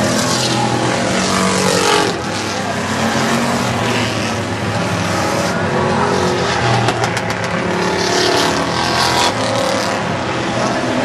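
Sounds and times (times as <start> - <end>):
race car engines roaring: 0.0 - 11.0.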